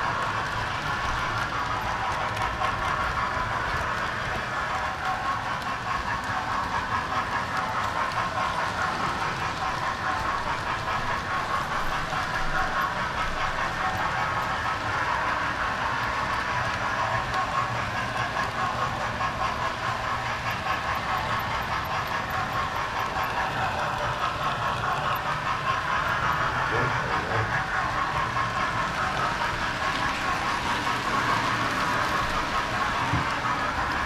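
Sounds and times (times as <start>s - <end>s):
model train wheels rattling on rails: 0.0s - 34.0s.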